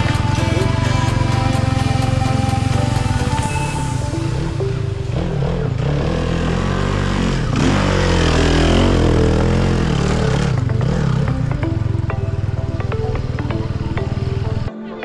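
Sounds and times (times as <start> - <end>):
motorcycle engine revving: 0.0 - 14.7.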